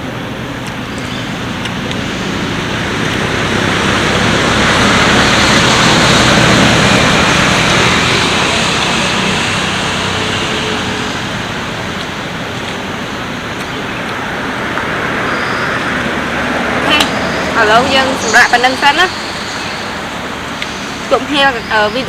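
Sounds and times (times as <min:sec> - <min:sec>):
road vehicle passing: 0:00.0 - 0:22.0.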